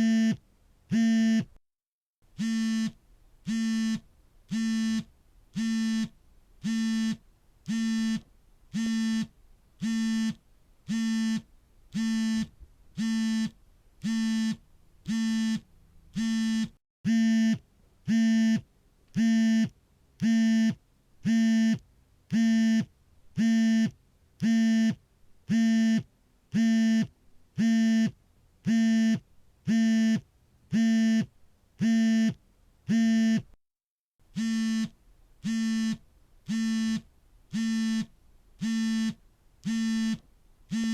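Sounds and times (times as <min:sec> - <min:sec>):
smartphone vibrating: 0:00.0 - 0:01.5, 0:02.4 - 0:18.6, 0:19.2 - 0:33.5, 0:34.3 - 0:40.9.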